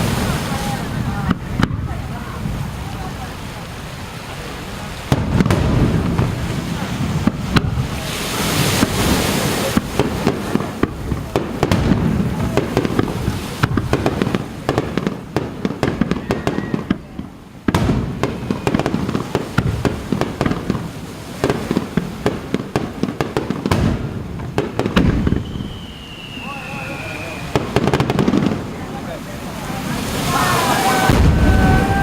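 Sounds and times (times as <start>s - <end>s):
fireworks crackling pops: 0.0s - 32.0s
firework shells booming: 5.0s - 29.2s, 29.8s - 32.0s.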